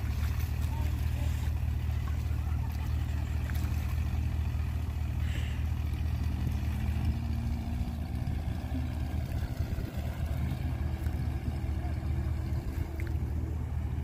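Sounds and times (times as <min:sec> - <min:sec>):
outboard engine humming: 0:00.0 - 0:14.0.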